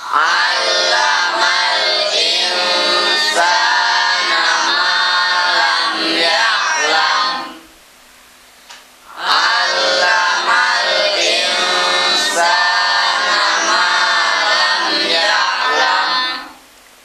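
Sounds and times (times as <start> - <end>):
boys chanting in unison: 0.0 - 7.7, 9.1 - 16.6.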